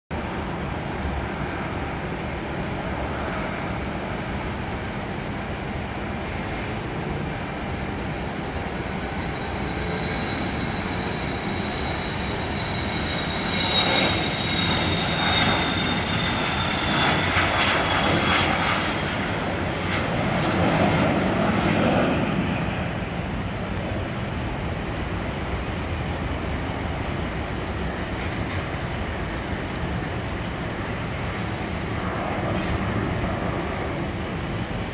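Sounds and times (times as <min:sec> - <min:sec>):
jet engines at takeoff: 0:00.1 - 0:34.9.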